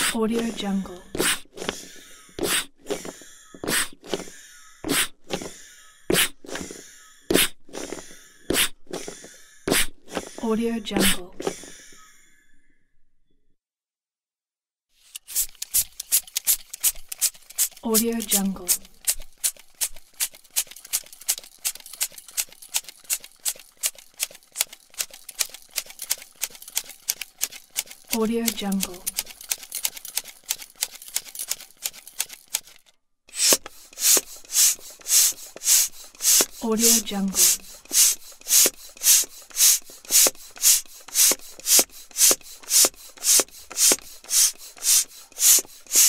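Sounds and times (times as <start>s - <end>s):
air pump hissing: 0.0s - 10.4s, 15.1s - 46.0s.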